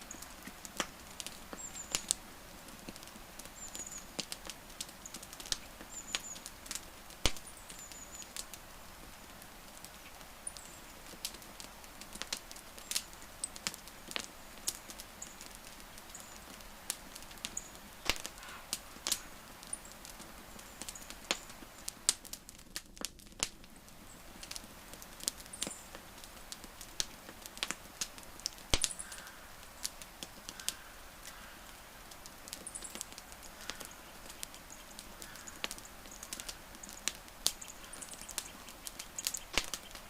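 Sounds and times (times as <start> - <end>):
campfire crackling and popping: 0.0 - 40.0
faint fire hiss: 0.0 - 40.0.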